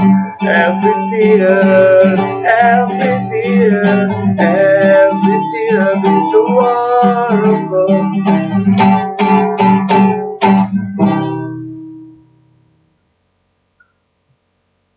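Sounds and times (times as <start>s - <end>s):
guitar strumming chords: 0.0s - 13.1s.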